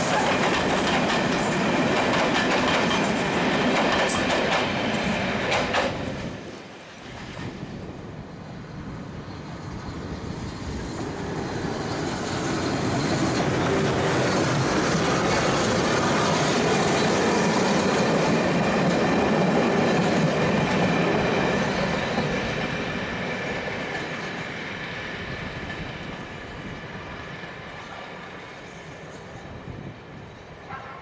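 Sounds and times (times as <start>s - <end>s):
steam locomotive and train passing: 0.0s - 31.0s.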